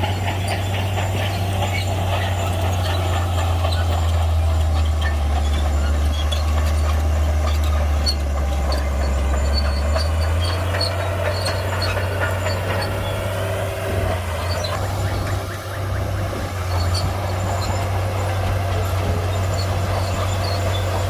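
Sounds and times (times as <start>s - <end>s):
bulldozer diesel engine running: 0.0s - 21.0s
light clanks and knocks: 0.0s - 21.0s.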